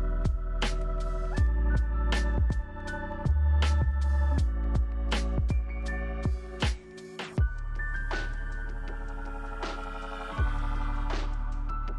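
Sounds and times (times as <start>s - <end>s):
deep bass: 0.0s - 6.8s, 7.4s - 11.9s.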